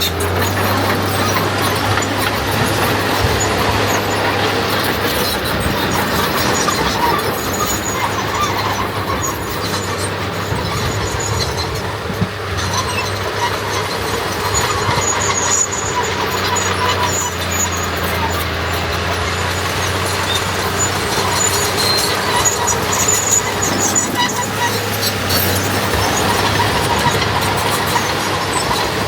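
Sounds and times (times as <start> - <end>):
bulldozer diesel engine running: 0.0 - 29.0
steel tracks squealing and clanking: 0.0 - 29.0.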